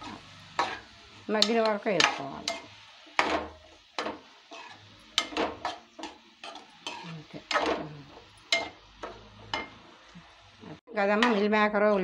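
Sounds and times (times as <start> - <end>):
metal spatula scraping a pan: 0.0 - 12.0.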